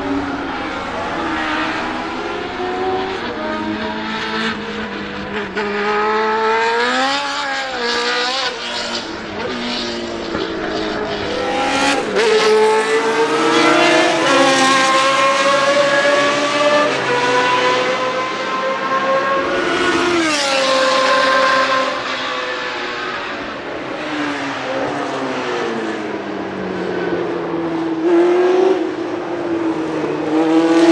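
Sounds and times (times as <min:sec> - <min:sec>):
race car engine revving: 0:00.0 - 0:25.9.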